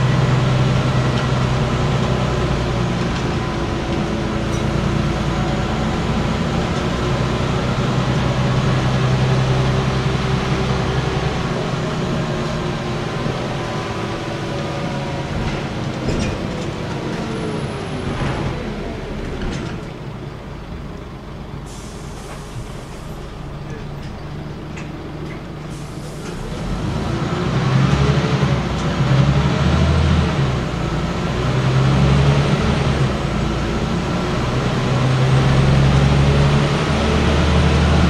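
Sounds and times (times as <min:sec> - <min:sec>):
bus engine running: 0:00.0 - 0:38.0.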